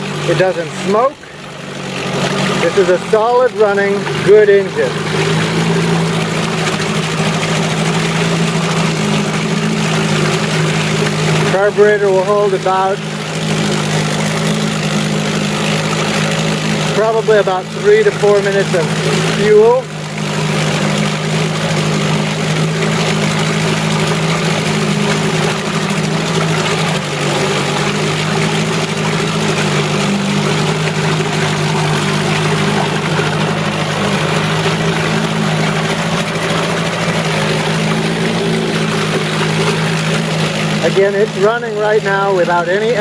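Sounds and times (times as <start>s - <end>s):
outboard motor running: 0.0s - 43.0s.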